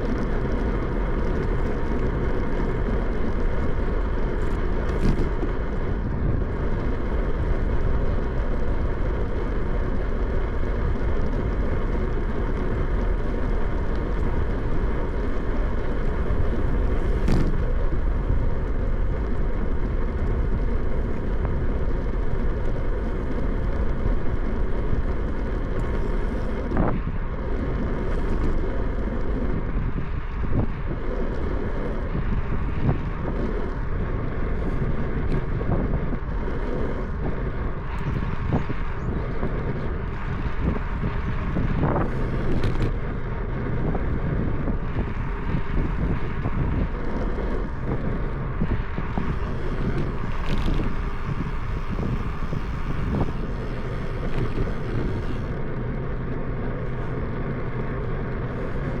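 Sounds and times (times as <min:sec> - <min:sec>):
bicycle road noise: 0:00.0 - 0:59.0
wind on microphone: 0:00.0 - 0:59.0.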